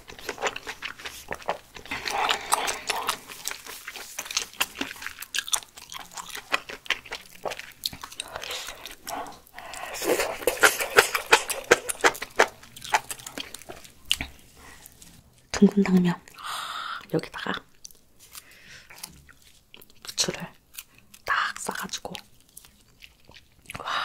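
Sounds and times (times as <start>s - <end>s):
crunchy chewing: 0.0s - 15.5s, 17.7s - 23.9s.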